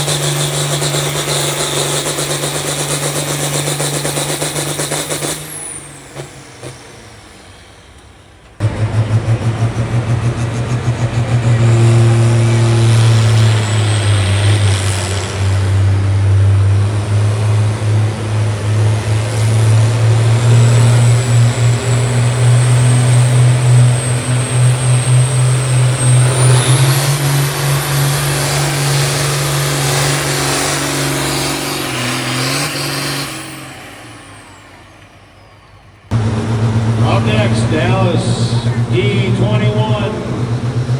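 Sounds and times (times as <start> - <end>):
tractor engine under full load: 0.0 - 40.9.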